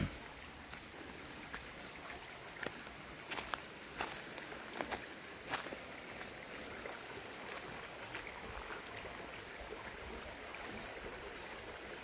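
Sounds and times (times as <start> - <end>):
river water in rocky pool: 0.0 - 12.0.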